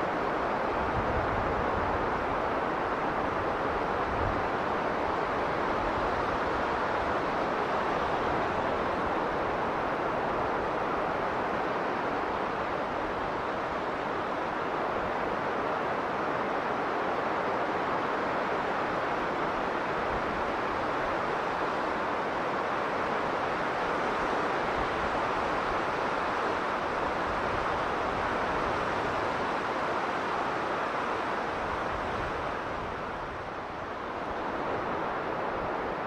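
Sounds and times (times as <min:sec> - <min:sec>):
strong blizzard wind: 0:00.0 - 0:36.0.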